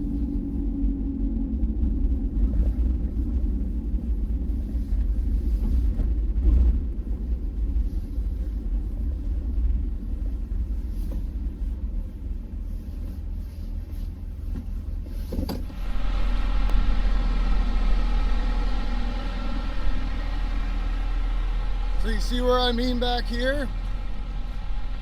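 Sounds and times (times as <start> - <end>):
engine hum with pitched drone: 0.0 - 25.0
vehicle rumble: 0.0 - 25.0.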